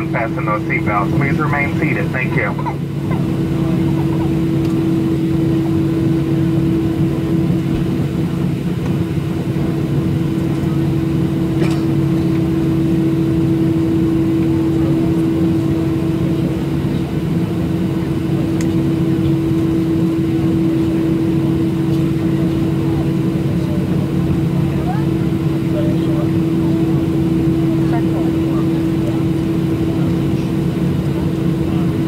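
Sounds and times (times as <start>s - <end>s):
airplane engine drone in cabin: 0.0s - 32.0s.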